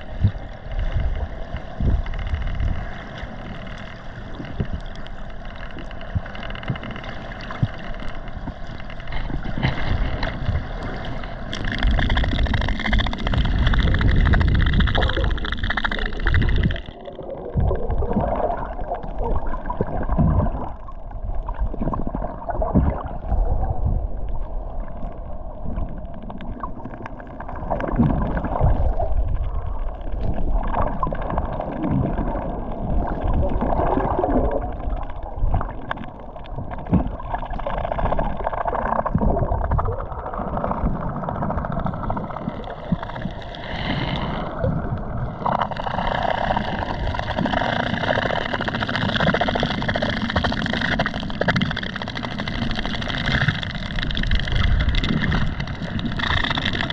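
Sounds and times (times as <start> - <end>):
water rumbling and gurgling: 0.0 - 56.9.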